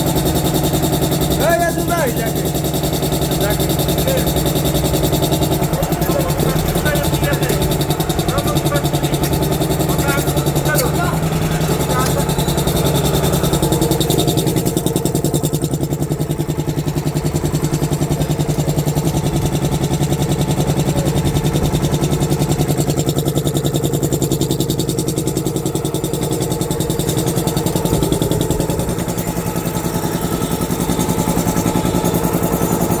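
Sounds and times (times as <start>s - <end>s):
air compressor running: 0.0s - 33.0s.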